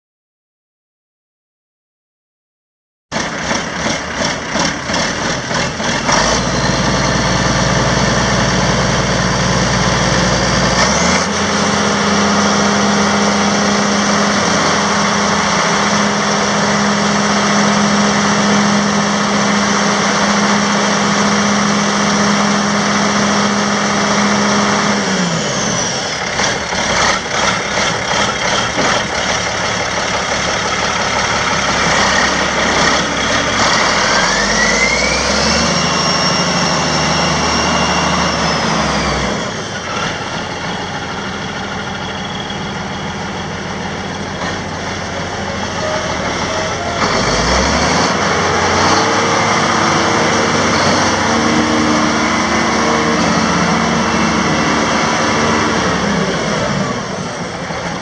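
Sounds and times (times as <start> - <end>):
diesel tractor engine idling and revving: 3.1 - 58.0.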